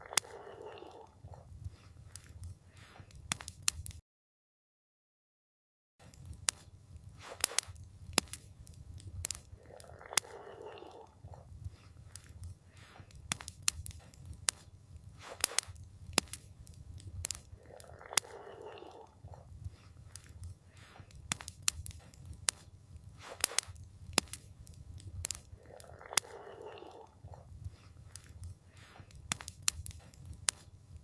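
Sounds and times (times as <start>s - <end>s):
campfire crackling and popping: 0.0s - 4.0s, 6.0s - 31.0s.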